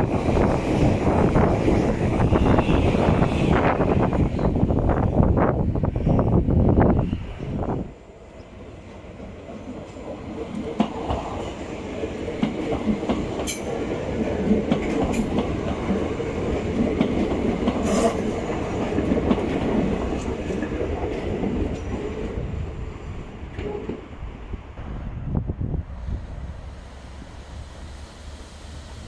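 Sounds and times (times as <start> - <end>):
electric train running past: 0.0 - 29.0.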